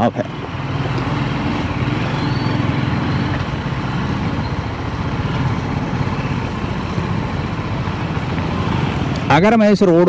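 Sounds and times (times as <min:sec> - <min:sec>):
motorcycle engine running low revs: 0:00.0 - 0:10.0.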